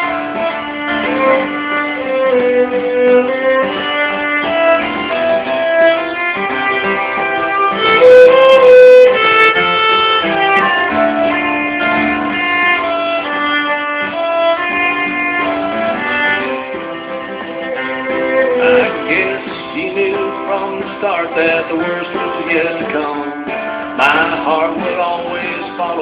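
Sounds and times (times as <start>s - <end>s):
fiddle playing: 0.0s - 26.0s
guitar accompaniment: 0.0s - 26.0s.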